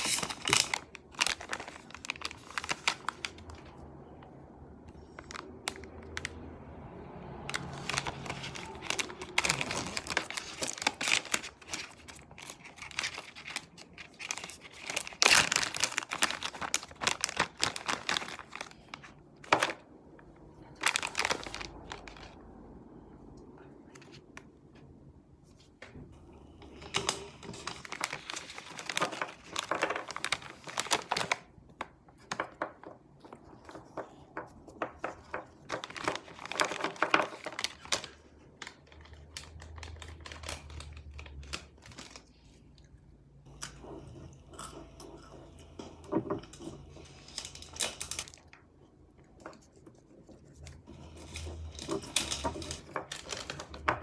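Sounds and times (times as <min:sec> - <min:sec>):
plastic snack bag crinkling: 0:00.0 - 0:04.0, 0:07.4 - 0:22.5, 0:26.6 - 0:42.9, 0:44.5 - 0:54.0.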